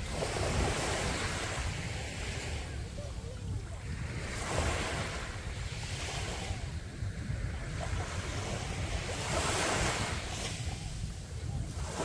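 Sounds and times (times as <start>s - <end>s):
sea waves breaking on beach: 0.0s - 12.0s
wind rumble on microphone: 0.0s - 12.0s.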